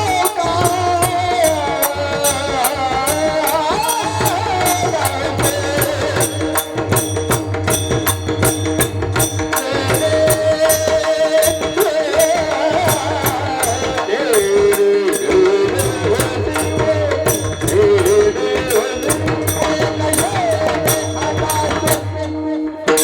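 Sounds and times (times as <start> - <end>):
person singing melody: 0.0 - 7.1, 9.2 - 23.0
harmonium drone: 0.0 - 23.0
tabla beat: 0.0 - 23.0.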